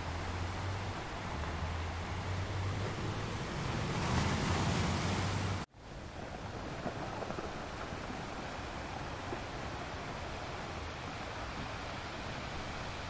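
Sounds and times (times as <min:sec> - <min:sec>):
sea surf breaking on rocks: 0:00.0 - 0:13.0
wind: 0:00.0 - 0:13.0.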